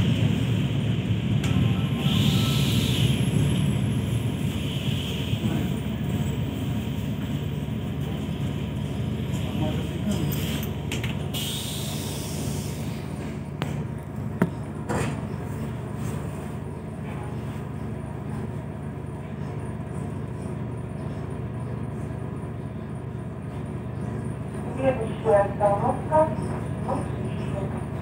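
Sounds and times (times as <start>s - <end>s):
electric train rumble and hum: 0.0s - 28.0s.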